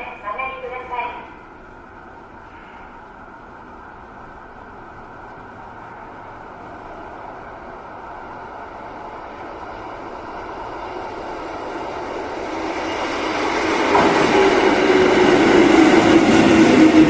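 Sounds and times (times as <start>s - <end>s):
electric train approaching: 0.0s - 17.0s
low whining train tone: 0.0s - 17.0s.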